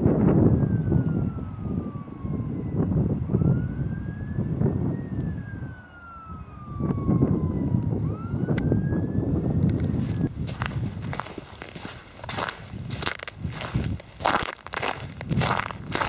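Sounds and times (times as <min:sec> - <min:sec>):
distant siren wailing: 0:00.0 - 0:16.0
wind rumble on microphone: 0:00.0 - 0:16.0.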